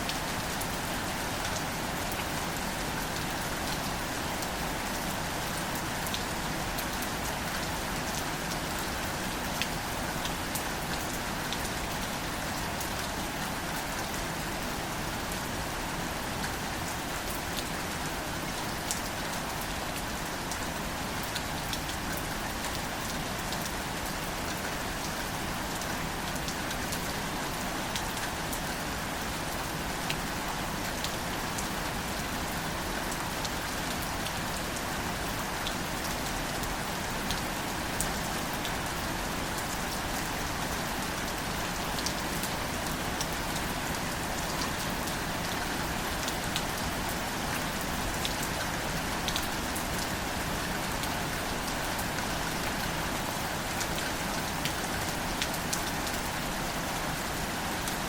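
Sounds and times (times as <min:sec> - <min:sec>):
gentle rain pattering: 0:00.0 - 0:58.0.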